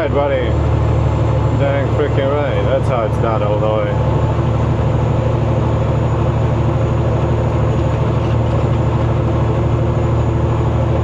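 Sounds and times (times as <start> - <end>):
road noise: 0.0 - 11.0
truck diesel engine droning: 0.0 - 11.0.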